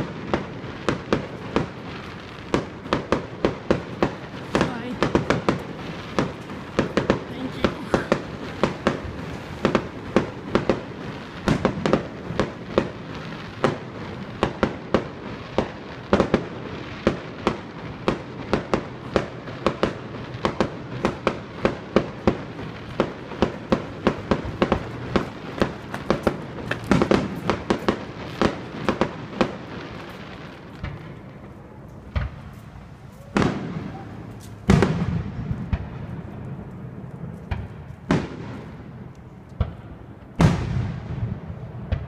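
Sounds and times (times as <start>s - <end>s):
fireworks bangs: 0.0s - 42.0s
fireworks crackle and rumble: 0.0s - 42.0s.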